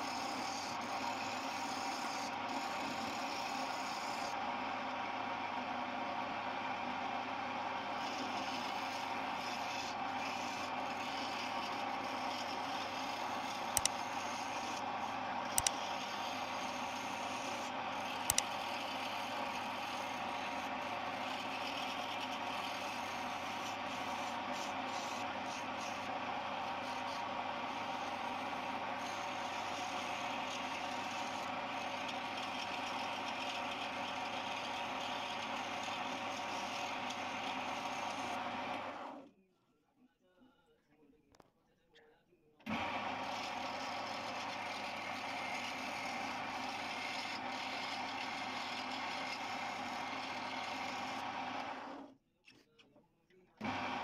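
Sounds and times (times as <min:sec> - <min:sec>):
chisel cutting spinning wood: 0:00.0 - 0:39.2, 0:42.7 - 0:52.1, 0:53.6 - 0:54.0
wood lathe running: 0:00.0 - 0:39.2, 0:42.7 - 0:52.1, 0:53.6 - 0:54.0.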